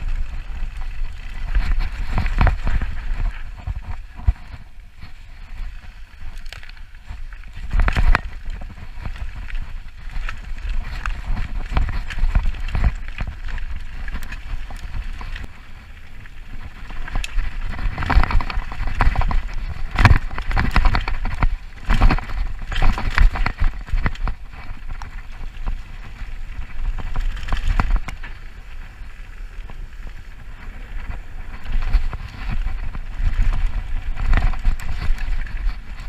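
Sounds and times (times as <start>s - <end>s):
bike knocking and rattling: 0.0s - 36.0s
bike rumbling on dirt trail: 0.0s - 36.0s.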